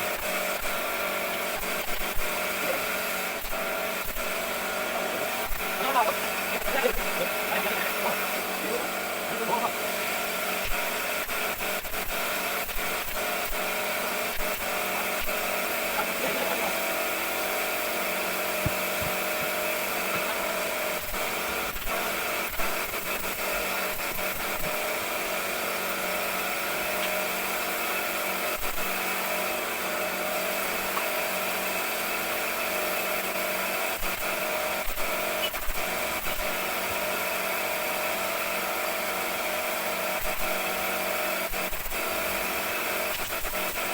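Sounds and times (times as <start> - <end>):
power tool running: 0.0 - 43.9.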